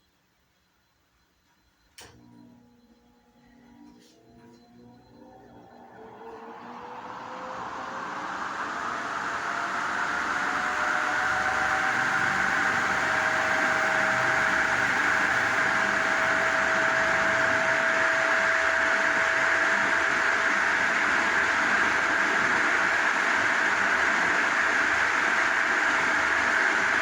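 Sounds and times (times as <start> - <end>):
fan motor hum: 1.9 - 27.0
ceiling fan air rush: 5.2 - 27.0.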